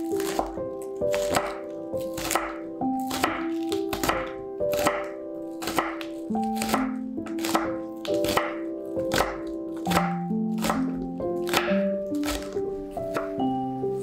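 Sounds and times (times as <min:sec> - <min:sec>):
knife chopping on wooden board: 0:00.0 - 0:13.4.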